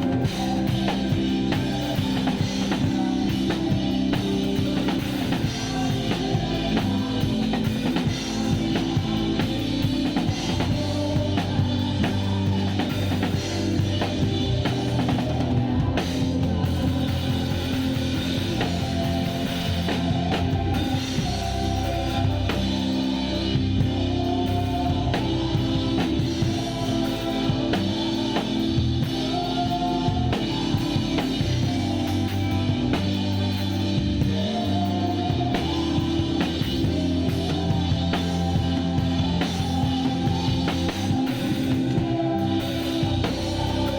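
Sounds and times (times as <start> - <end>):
bass and keyboard notes: 0.0 - 43.9
drum kit playing: 0.0 - 43.9.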